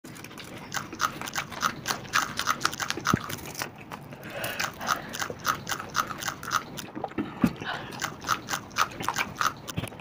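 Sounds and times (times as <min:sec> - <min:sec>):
crunchy bites and chewing: 0:00.1 - 0:10.0.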